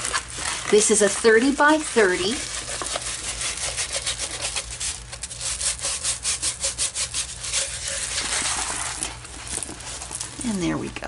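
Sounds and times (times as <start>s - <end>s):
canvas rubbing and scraping: 0.0s - 10.8s.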